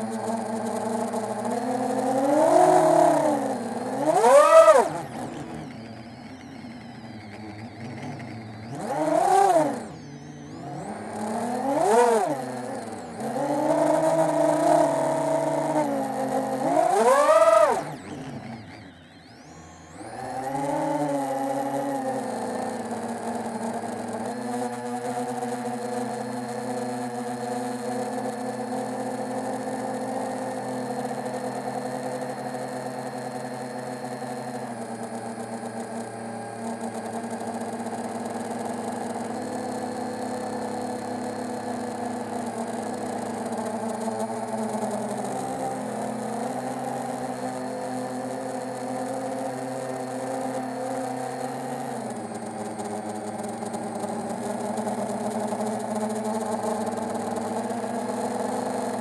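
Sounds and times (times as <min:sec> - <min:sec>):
drone motors whirring: 0:00.0 - 0:59.0.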